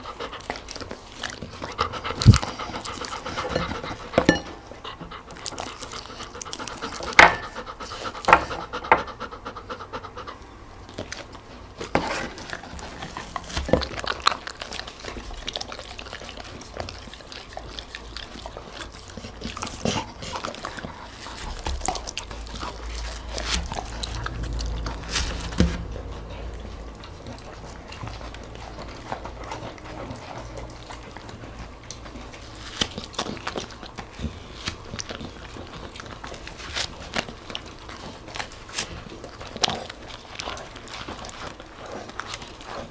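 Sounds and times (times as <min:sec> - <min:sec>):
dog chewing clicks: 0:00.0 - 0:42.9
dog panting: 0:00.0 - 0:42.9.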